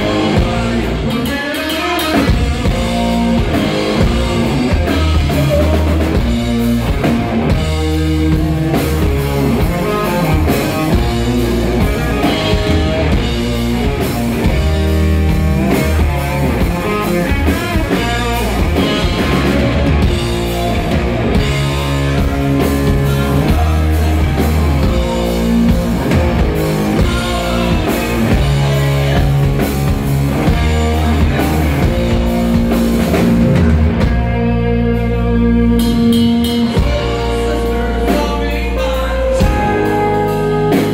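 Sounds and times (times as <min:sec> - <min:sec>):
heavy rock band playing: 0:00.0 - 0:40.9.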